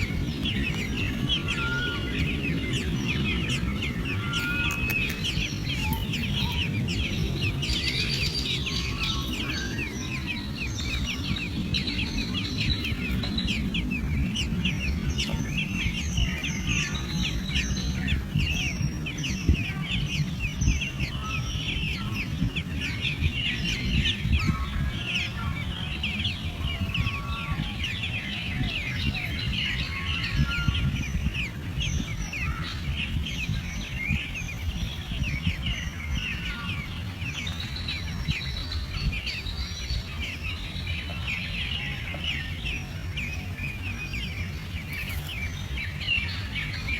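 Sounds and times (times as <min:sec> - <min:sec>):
birds chirping: 0:00.0 - 0:46.9
steady low rumble: 0:00.0 - 0:46.9.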